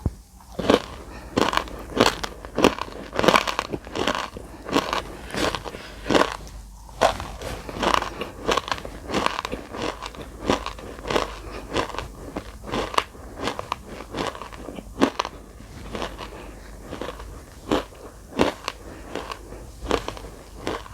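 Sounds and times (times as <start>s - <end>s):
chewing crunchy clay: 0.0s - 20.9s.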